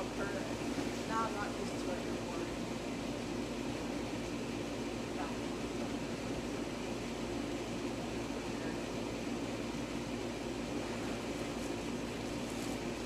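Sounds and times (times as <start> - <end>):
machine-like hum: 0.0 - 13.0.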